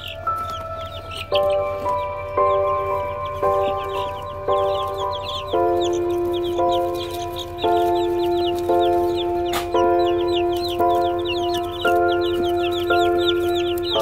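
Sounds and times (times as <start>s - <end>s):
background music: 0.0s - 14.0s
chicks peeping: 0.0s - 14.0s.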